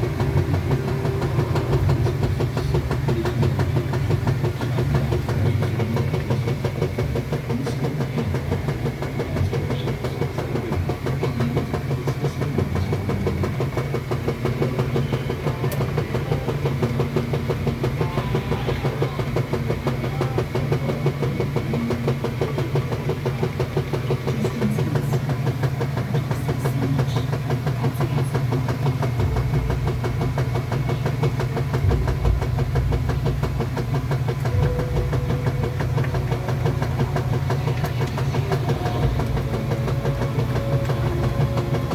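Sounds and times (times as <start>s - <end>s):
fine rapid rattle: 0.0s - 41.9s
washing machine motor hum: 0.0s - 41.9s.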